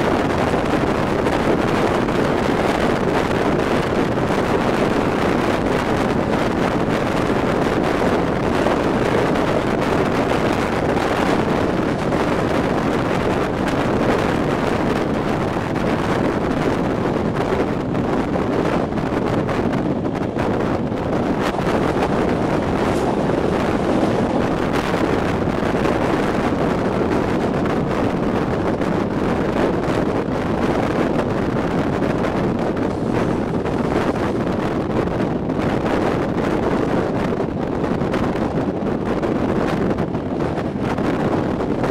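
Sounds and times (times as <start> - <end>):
train running on track: 0.0 - 41.9
wind buffeting microphone: 0.0 - 41.9.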